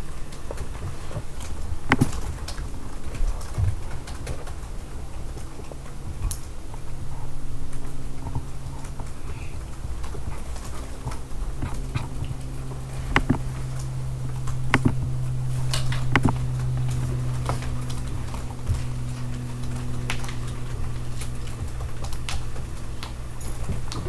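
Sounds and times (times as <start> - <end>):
low room hum: 0.0 - 24.0
light clicks and knocks: 0.3 - 24.0.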